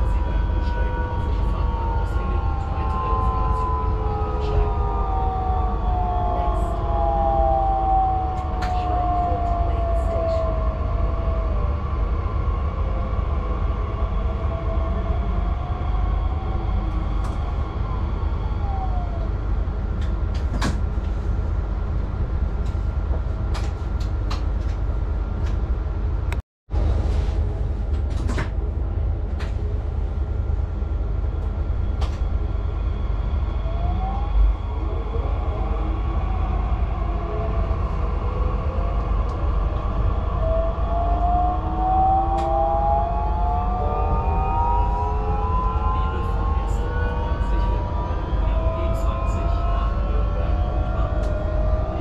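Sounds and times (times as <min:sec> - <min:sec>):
low rumble of running train: 0:00.0 - 0:52.0.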